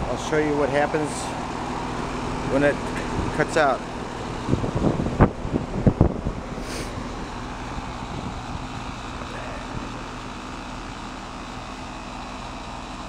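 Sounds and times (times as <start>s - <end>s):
heat pump unit humming: 0.0s - 13.0s.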